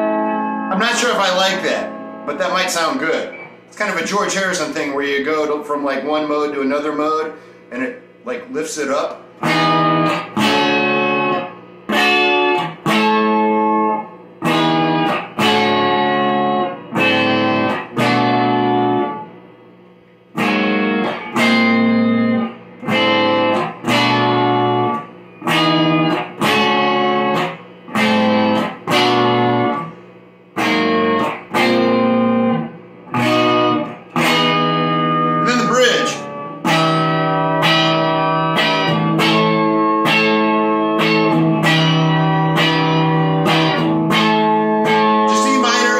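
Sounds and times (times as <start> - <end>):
electric guitar strumming chords: 0.0 - 45.9.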